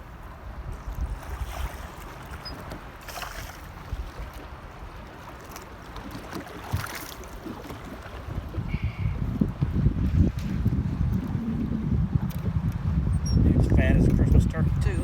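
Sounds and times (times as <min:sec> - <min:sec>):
wind buffeting microphone: 0:00.0 - 0:05.1, 0:06.6 - 0:15.0.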